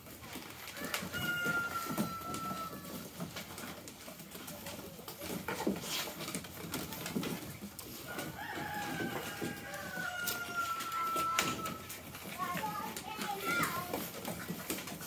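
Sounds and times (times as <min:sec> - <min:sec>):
scratchy scuffling: 0:00.0 - 0:15.0.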